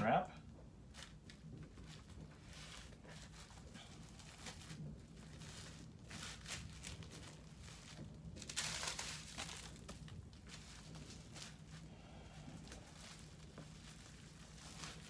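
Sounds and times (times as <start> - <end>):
plastic cling wrap crinkling: 0.8 - 15.0.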